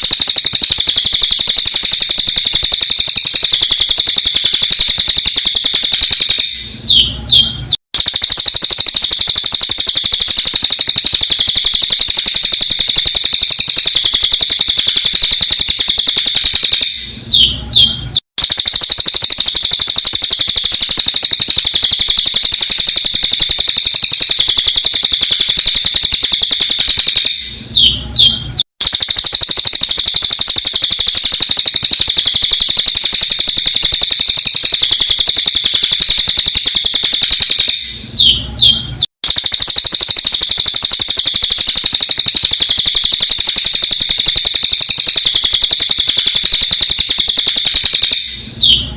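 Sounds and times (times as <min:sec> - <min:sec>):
bird chattering: 0:00.0 - 0:38.4, 0:39.3 - 0:48.9
bird chirps: 0:00.0 - 0:48.9.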